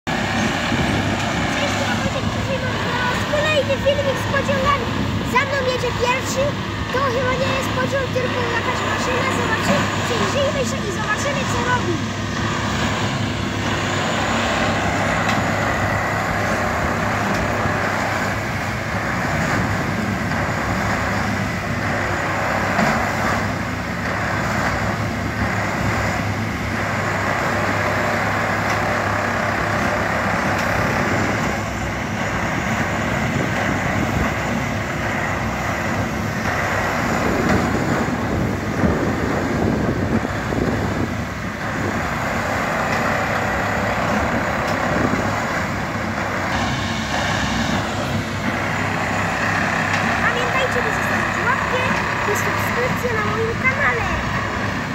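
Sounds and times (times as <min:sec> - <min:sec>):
machine engine humming: 0:00.1 - 0:54.9.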